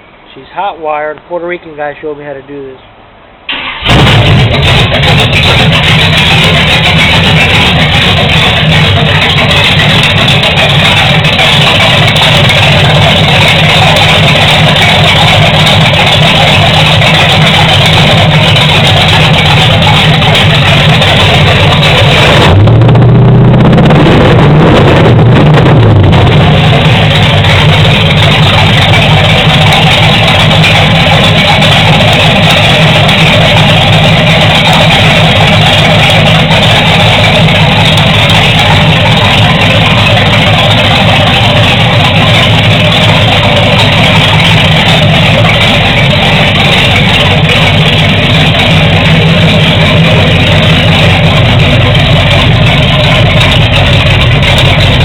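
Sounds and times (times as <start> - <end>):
loud vee eight engine revving and idling: 3.7 - 55.0.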